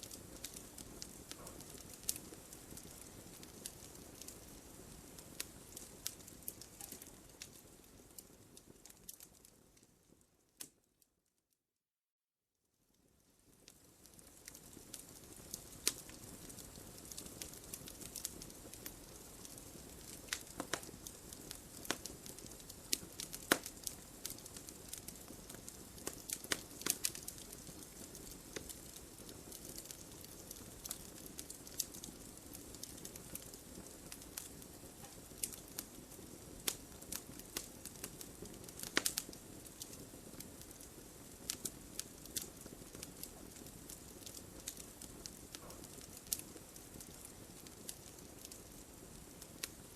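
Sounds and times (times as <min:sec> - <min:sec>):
fire flames rustling: 0:00.0 - 0:10.8, 0:13.0 - 0:49.9
fire crackling and popping: 0:00.0 - 0:11.0, 0:12.9 - 0:49.9.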